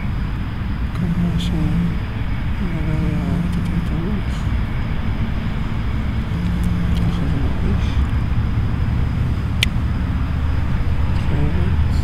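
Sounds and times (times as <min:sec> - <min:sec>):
low rumbling noise: 0:00.0 - 0:12.0.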